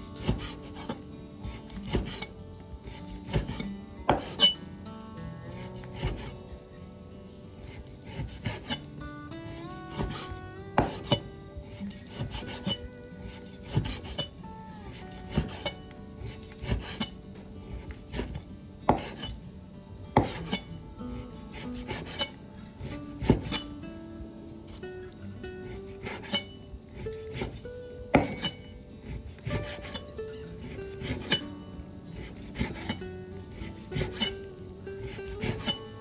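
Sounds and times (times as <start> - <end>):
kitchen utensil scraping: 0.0 - 4.7, 5.5 - 6.5, 7.6 - 19.4, 20.2 - 23.8, 25.6 - 35.8
plucked string music: 0.0 - 36.0.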